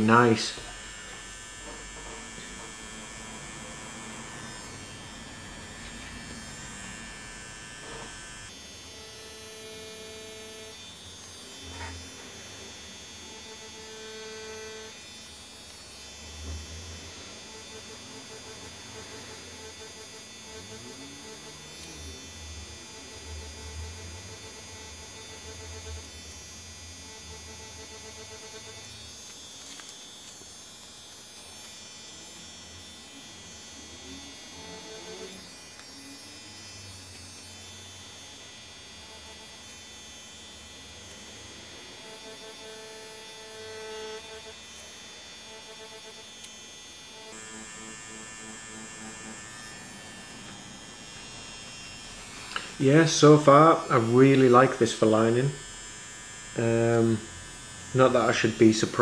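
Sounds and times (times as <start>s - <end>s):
tattoo machine humming: 0.0s - 59.0s.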